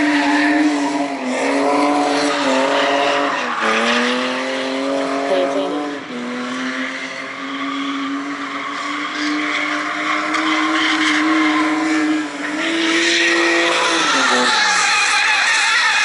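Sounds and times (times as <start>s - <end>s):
car engine at high revs: 0.0s - 16.0s
tires squealing: 0.0s - 16.0s.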